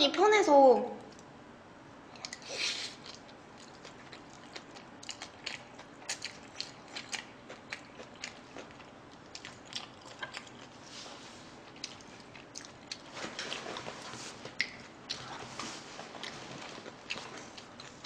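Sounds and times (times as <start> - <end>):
person chewing food: 2.1 - 18.0.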